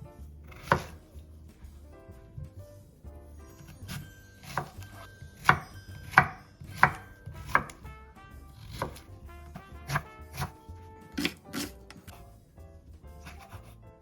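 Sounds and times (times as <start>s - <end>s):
knife chopping on cutting board: 0.2s - 2.6s, 3.5s - 12.3s, 13.1s - 14.0s.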